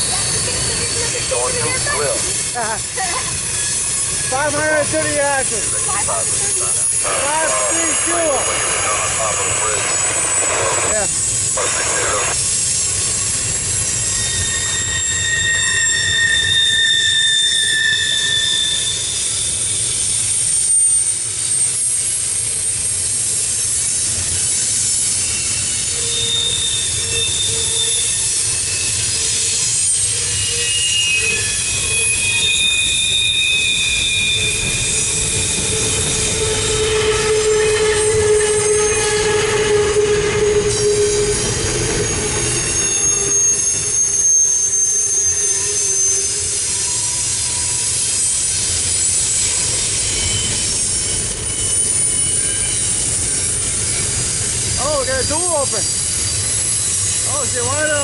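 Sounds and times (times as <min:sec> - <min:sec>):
freight train rumble: 0:00.0 - 0:58.0
train wheels squealing: 0:00.0 - 0:58.0.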